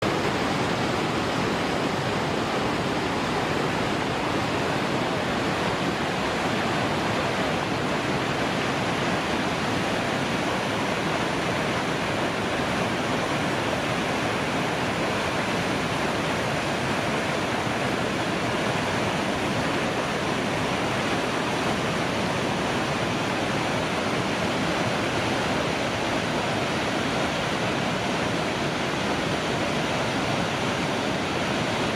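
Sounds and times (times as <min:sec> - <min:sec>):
water rushing over rapids: 0:00.0 - 0:31.9.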